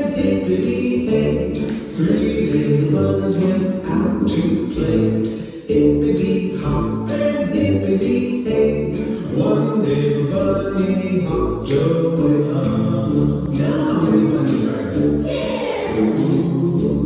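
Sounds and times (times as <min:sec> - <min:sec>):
children's song sung by voices: 0:00.0 - 0:17.0
light backing track with beat: 0:00.0 - 0:17.0.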